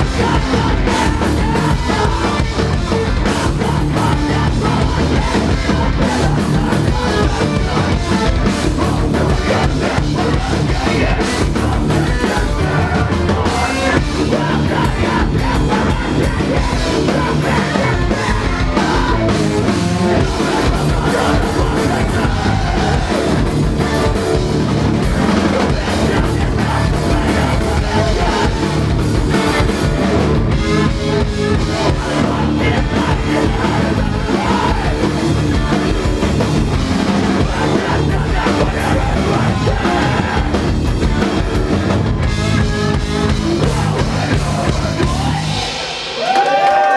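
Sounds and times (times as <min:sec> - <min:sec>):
drum kit: 0:00.0 - 0:46.9
rock band playing live: 0:00.0 - 0:46.9.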